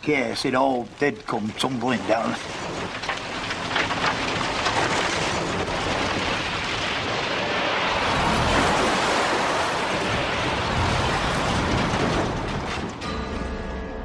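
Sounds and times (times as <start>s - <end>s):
fire crackling: 0.0s - 13.4s
tower collapsing rumble: 0.0s - 14.0s.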